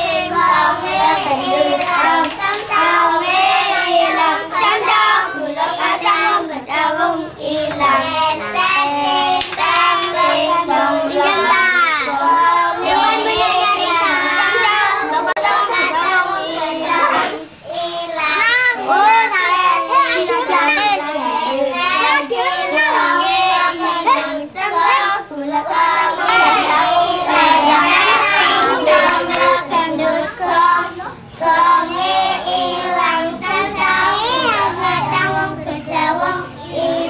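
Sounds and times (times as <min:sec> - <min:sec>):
children singing a rhyme: 0:00.0 - 0:37.0.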